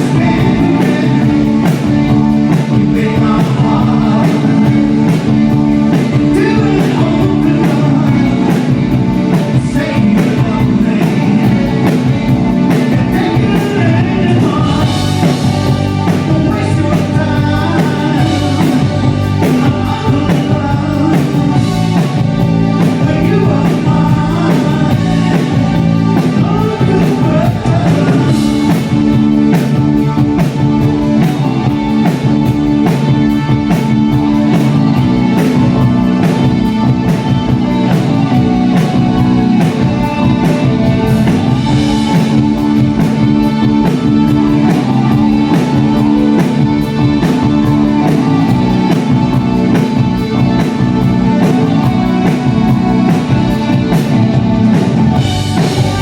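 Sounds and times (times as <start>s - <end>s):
electric guitar: 0.0s - 56.0s
keyboards: 0.0s - 56.0s
lead singer singing: 0.0s - 56.0s
steady drum beat: 0.0s - 56.0s.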